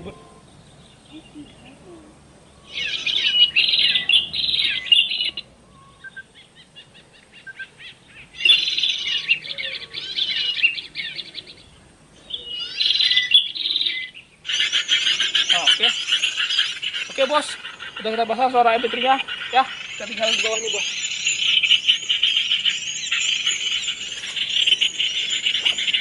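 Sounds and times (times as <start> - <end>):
small birds chattering from speaker: 0.0 - 26.0.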